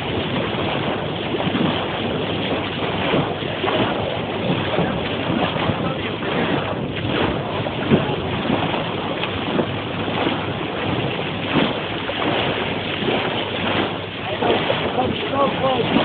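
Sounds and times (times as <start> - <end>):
water rushing at boat bow: 0.0 - 16.0
wind buffeting microphone: 0.0 - 16.0.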